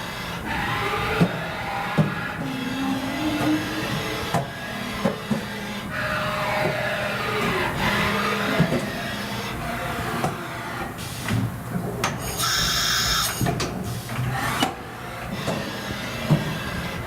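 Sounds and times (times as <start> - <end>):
machinery whirring and knocking: 0.0 - 17.0.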